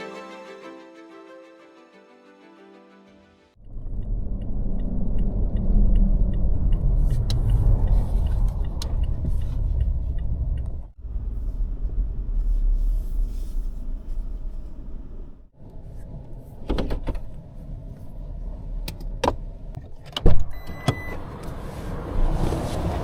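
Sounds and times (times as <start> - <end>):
vehicle road and engine rumble: 3.6 - 23.0.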